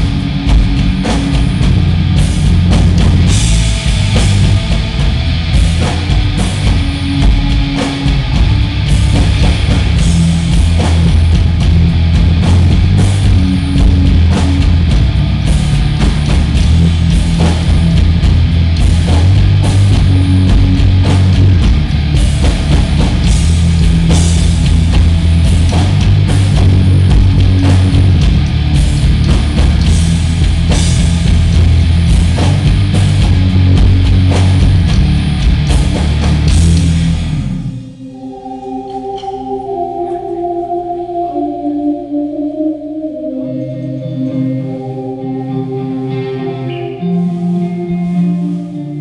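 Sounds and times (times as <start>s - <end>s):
drum kit hits: 0.0s - 39.5s
distorted electric guitar chugging: 0.0s - 49.0s
heavy metal band playing live: 0.0s - 49.0s.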